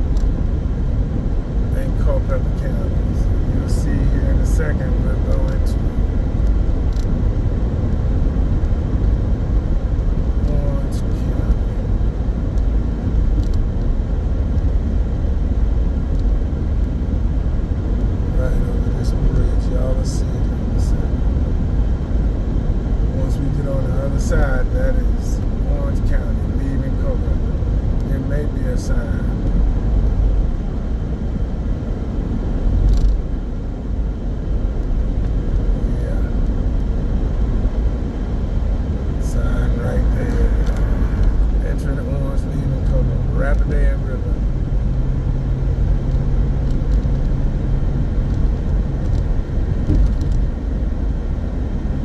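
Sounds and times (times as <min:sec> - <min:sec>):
car driving heard from inside: 0:00.0 - 0:52.0.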